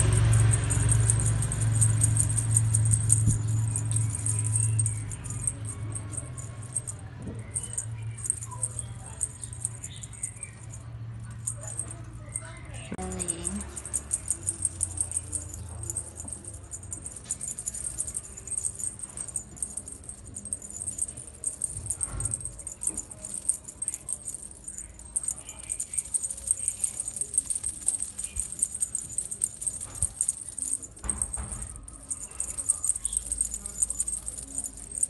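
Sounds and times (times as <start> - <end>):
small bells jingling: 0.0 - 35.0.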